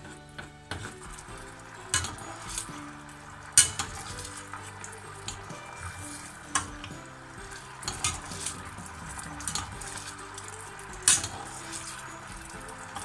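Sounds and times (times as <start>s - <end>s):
sauce sizzling and bubbling in a pan: 0.0s - 13.0s
metal spoon clinking against pan: 0.8s - 13.0s.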